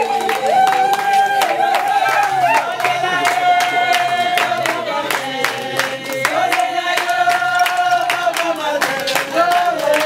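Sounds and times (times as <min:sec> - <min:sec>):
rhythmic hand clapping: 0:00.0 - 0:10.0.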